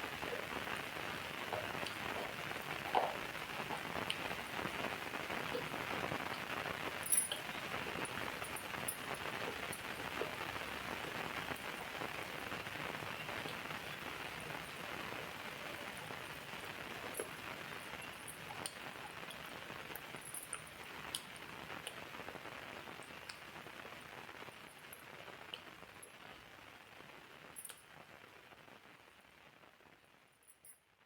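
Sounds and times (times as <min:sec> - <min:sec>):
steady rain falling: 0:00.0 - 0:30.6
sharp drip-like clicks: 0:00.1 - 0:22.1, 0:22.9 - 0:26.2, 0:27.6 - 0:27.9.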